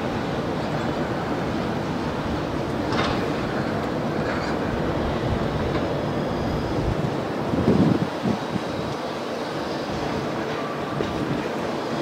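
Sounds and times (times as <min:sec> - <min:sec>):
train passing: 0:00.0 - 0:12.0.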